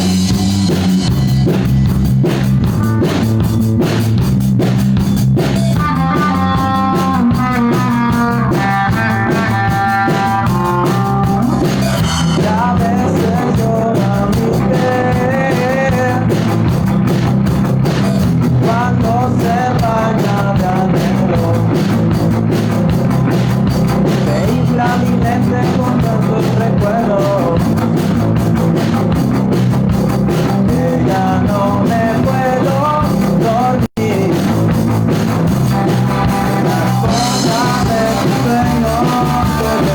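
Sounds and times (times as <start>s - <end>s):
rock music with guitars: 0.0s - 39.9s.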